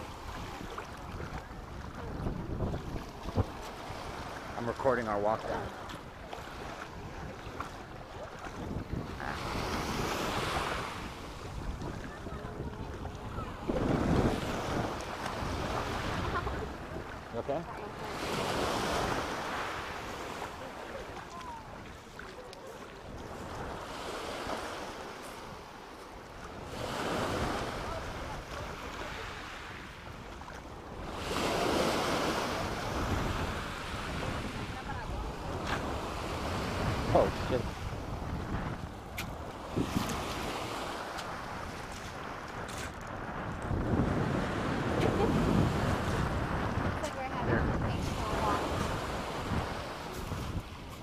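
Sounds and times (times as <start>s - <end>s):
wind rumble on microphone: 0.0s - 4.6s, 5.3s - 22.2s, 26.3s - 51.0s
small waves on pebbly shore: 0.0s - 51.0s.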